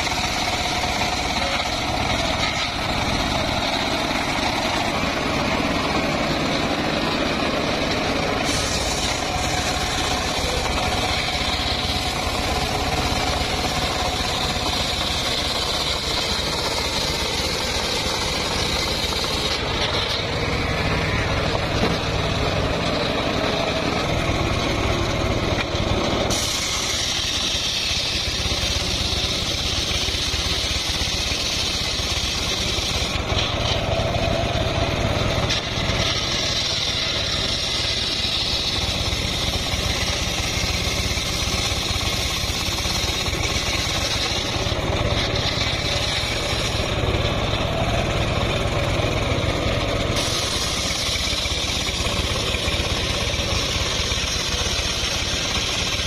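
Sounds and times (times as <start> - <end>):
circular saw cutting log: 0.0 - 56.0
engine rumbling: 0.0 - 56.0.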